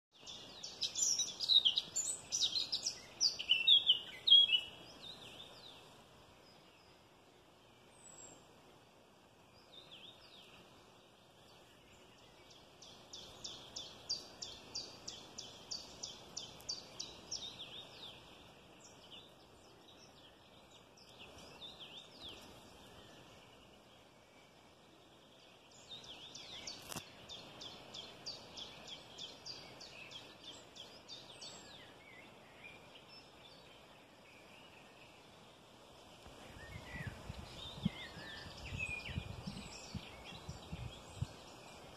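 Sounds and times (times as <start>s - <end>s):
birds chirping: 0.1s - 8.6s, 9.4s - 41.9s
faint background hiss: 0.2s - 41.9s.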